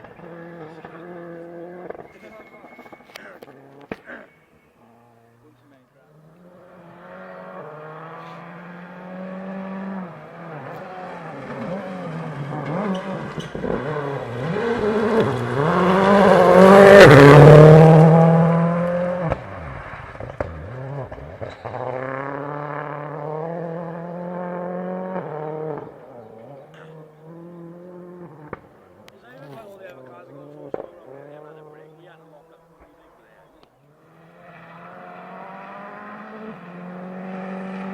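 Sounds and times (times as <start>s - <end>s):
rally car engine at speed: 0.0s - 4.1s, 6.1s - 37.9s.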